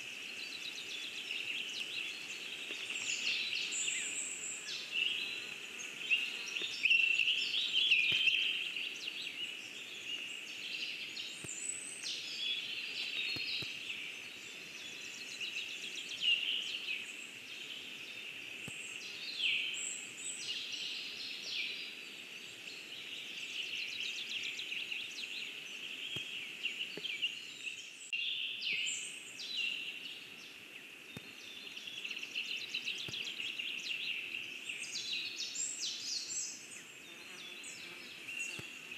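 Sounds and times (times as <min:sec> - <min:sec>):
songbirds singing and trilling: 0:00.0 - 0:38.9.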